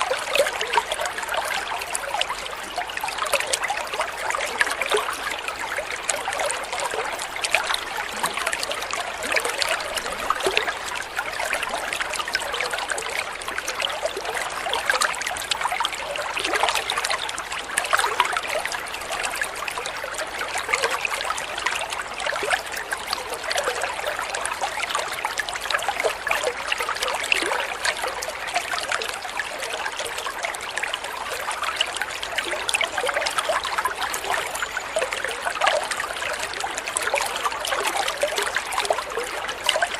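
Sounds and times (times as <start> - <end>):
water trickling with small splashes: 0.0 - 39.9.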